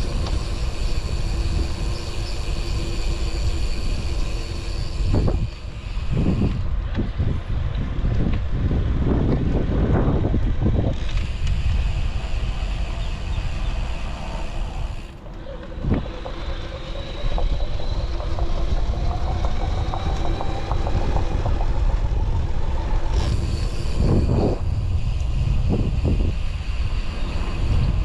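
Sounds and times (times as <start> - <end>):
e-bike motor whine: 0.0 - 28.0
wind on microphone: 0.0 - 28.0.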